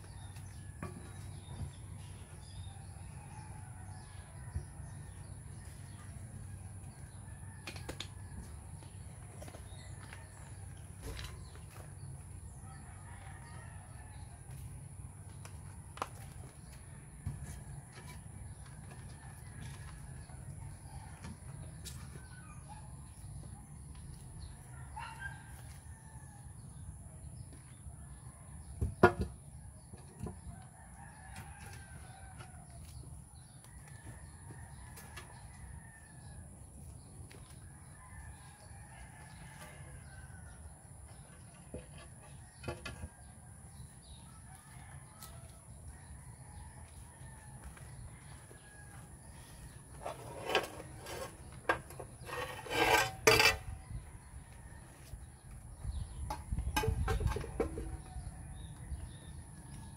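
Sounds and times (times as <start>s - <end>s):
roosters crowing: 0.0s - 27.0s, 28.0s - 59.9s.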